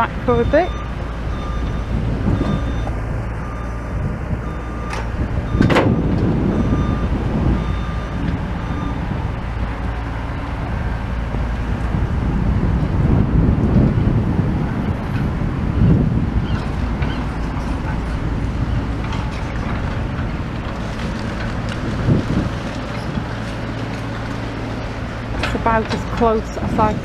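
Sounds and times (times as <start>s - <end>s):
demolition machinery engine rumble: 0.0s - 27.0s.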